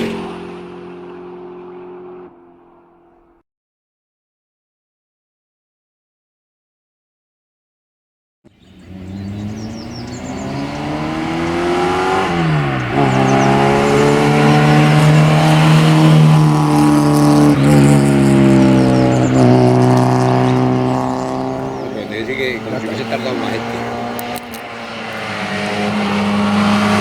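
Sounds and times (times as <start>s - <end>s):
car engine revving: 0.0s - 3.4s, 8.6s - 27.0s.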